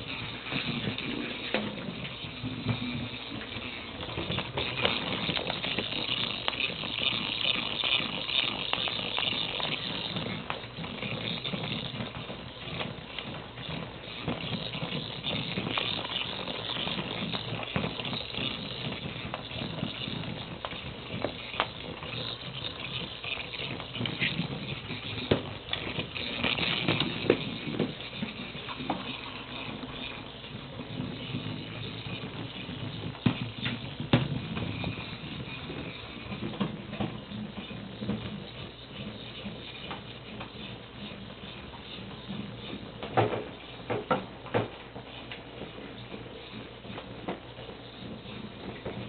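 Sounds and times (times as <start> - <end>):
toy ball rattling on tile floor: 0.0 - 44.2.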